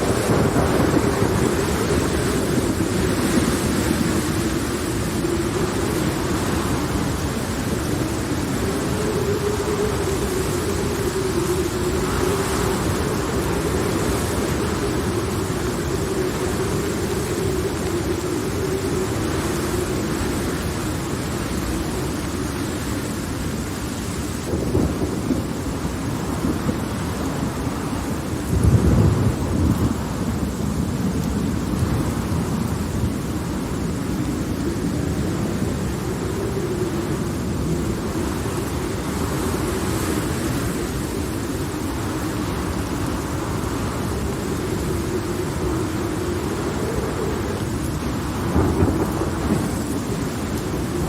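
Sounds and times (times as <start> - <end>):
heavy rain: 0.0 - 51.0
low rolling thunder: 0.0 - 51.0.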